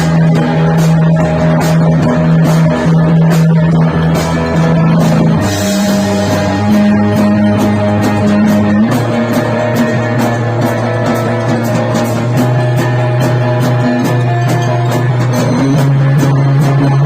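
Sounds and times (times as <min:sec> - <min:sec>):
bass guitar sustained notes: 0:00.0 - 0:17.0
cymbals ticking: 0:00.0 - 0:17.0
electric guitar sustained notes: 0:00.0 - 0:17.0.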